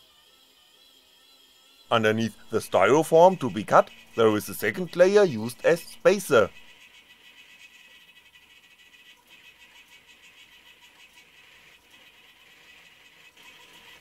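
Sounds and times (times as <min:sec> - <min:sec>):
faint whir of small motors: 0:00.0 - 0:14.0.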